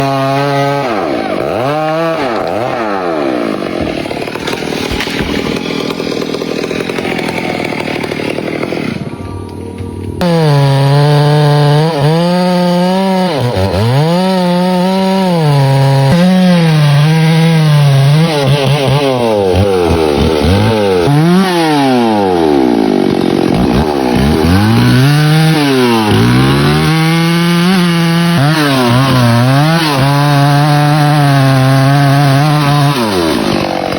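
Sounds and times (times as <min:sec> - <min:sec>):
chainsaw cutting: 0:00.0 - 0:33.9.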